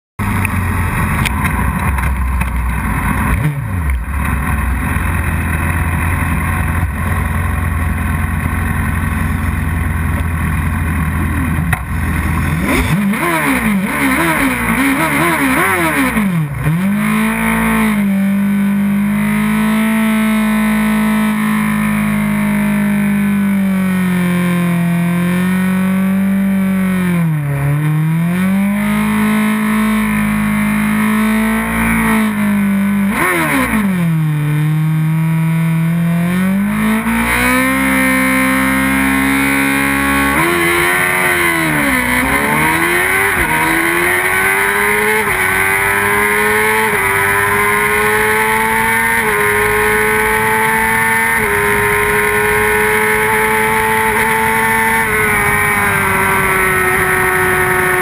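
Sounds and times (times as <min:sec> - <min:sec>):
motorcycle engines: 0:00.2 - 0:58.0.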